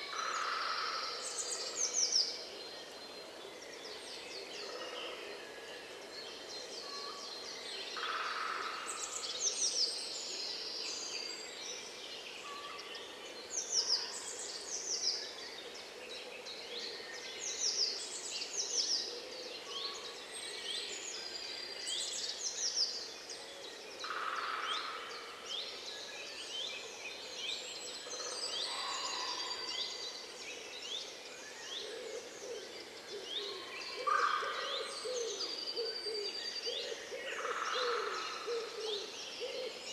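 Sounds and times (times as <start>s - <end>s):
wild birds chirping and trilling: 0.0s - 39.9s.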